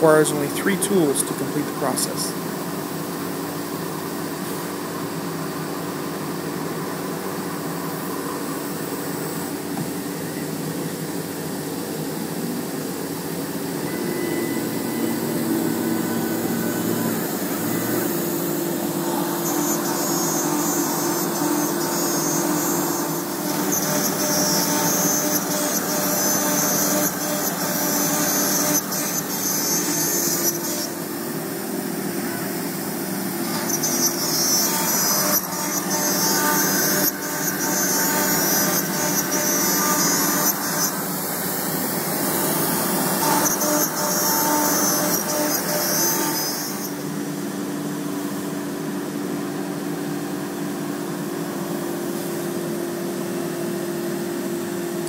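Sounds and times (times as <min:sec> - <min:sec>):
machine hum: 0:00.0 - 0:55.0
router bit cutting whine: 0:00.0 - 0:55.0.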